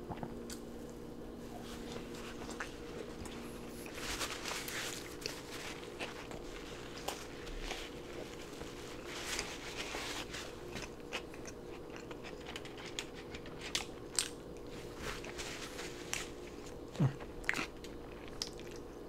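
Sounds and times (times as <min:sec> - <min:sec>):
faint steady hum: 0:00.0 - 0:19.0
man chewing food: 0:00.0 - 0:19.0.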